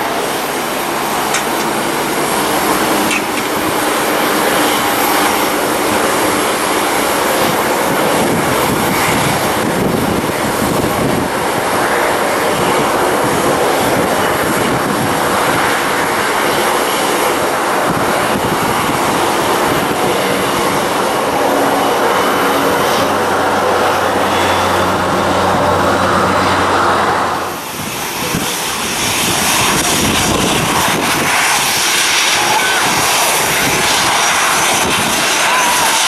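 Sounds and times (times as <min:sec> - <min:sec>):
jet engines taxiing: 0:00.0 - 0:36.0.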